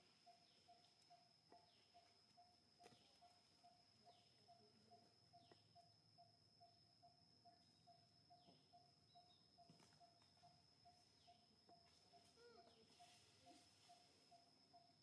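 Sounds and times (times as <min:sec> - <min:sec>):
birds: 0:00.0 - 0:15.0
insects: 0:00.0 - 0:15.0.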